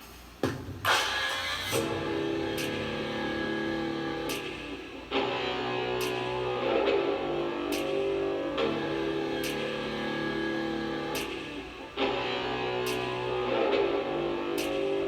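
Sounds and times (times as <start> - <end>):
guitar chords with drums: 1.8 - 15.0.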